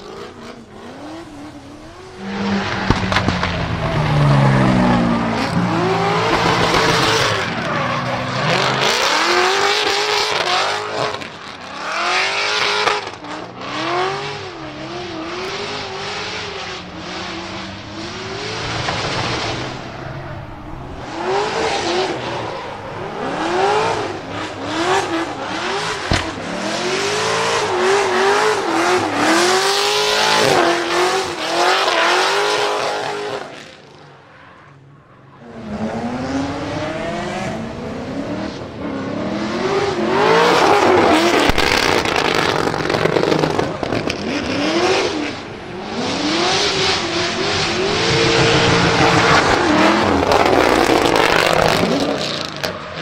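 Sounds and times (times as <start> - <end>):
car engine revving: 0.0 - 34.0, 35.4 - 52.8.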